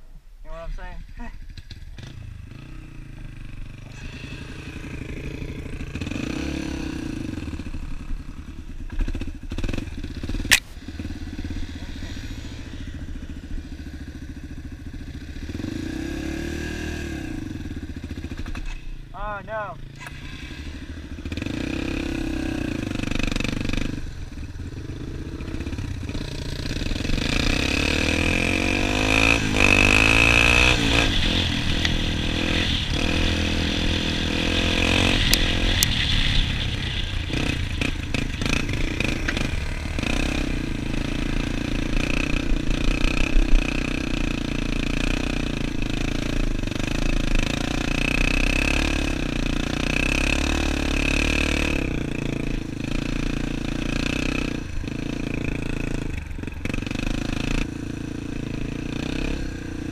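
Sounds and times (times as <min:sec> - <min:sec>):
dirt bike engine revving: 0:00.7 - 0:59.9.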